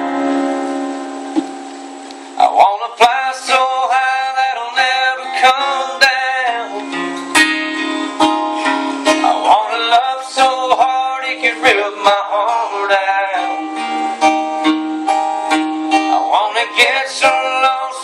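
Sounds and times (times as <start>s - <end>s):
acoustic guitars playing country: 0.0s - 18.0s.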